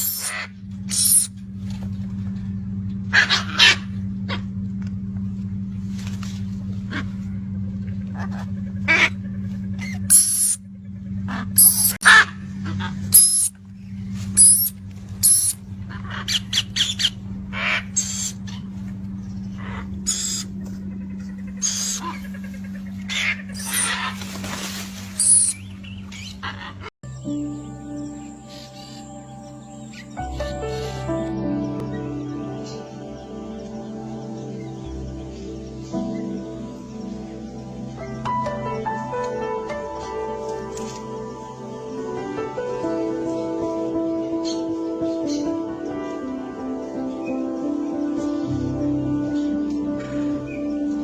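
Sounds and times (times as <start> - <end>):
birds squawking and chirping: 0.0 - 1.3, 8.2 - 10.6, 11.3 - 13.5, 14.4 - 42.4, 43.3 - 51.0
steady low hum: 0.0 - 42.3.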